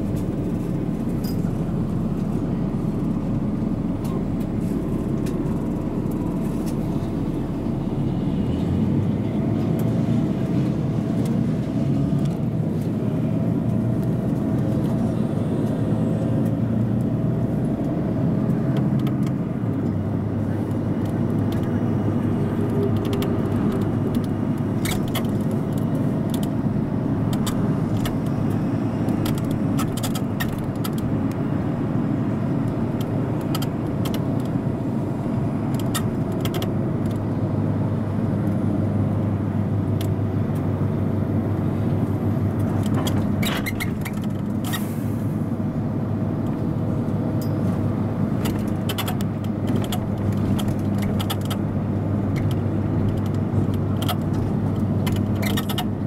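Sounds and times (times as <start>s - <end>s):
bus engine and tyre drone: 0.0s - 56.0s.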